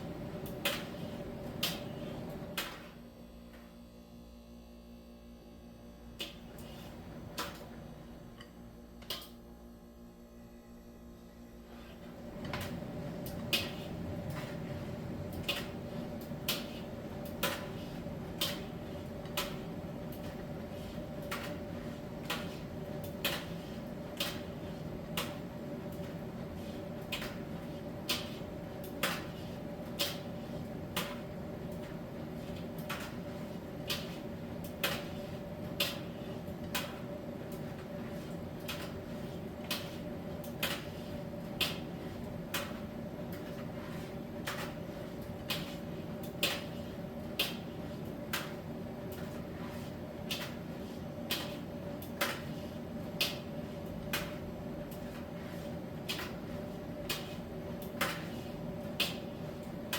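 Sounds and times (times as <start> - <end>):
tumble dryer drum humming: 0.0 - 3.8, 5.2 - 59.9.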